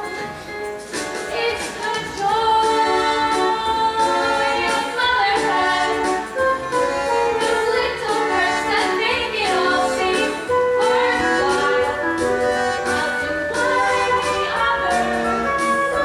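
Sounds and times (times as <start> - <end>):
instrumental accompaniment: 0.0 - 16.0
women singing: 1.3 - 6.3, 7.2 - 16.0.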